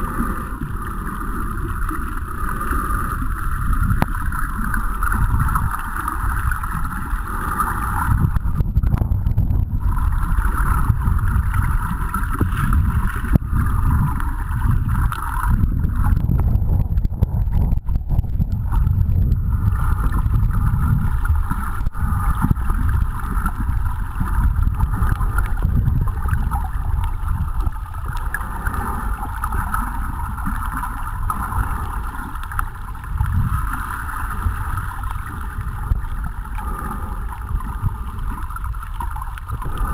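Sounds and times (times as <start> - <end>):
water rumbling underwater: 0.0 - 39.9.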